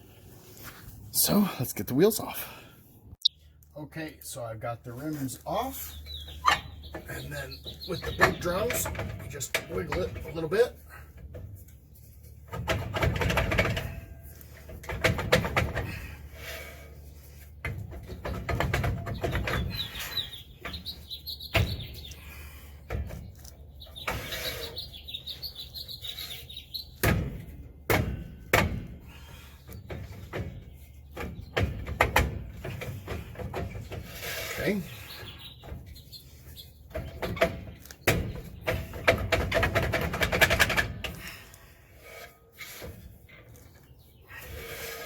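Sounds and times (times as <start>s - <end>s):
metal clunks and scraping: 5.0s - 25.5s, 26.1s - 45.0s.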